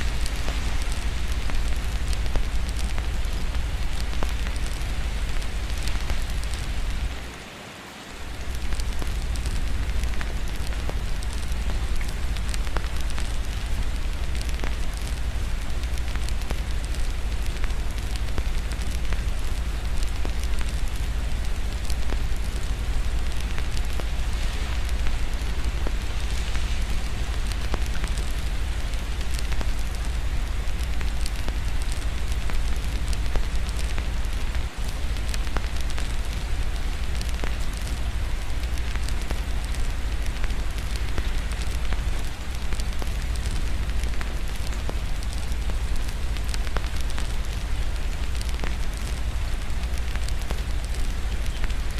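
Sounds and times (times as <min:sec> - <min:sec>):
wood fire crackling: 0:00.0 - 0:07.4, 0:08.1 - 0:51.9
rain hissing: 0:00.0 - 0:51.9.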